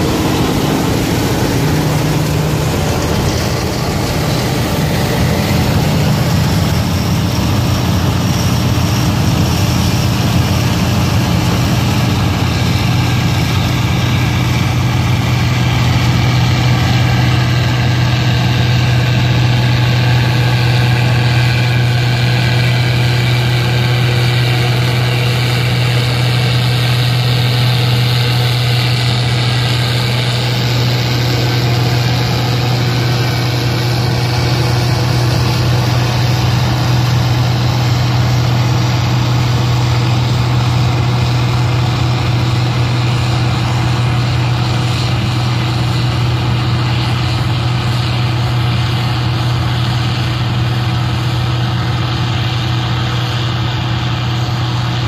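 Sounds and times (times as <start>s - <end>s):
combine harvester engine hum: 0.0s - 55.0s.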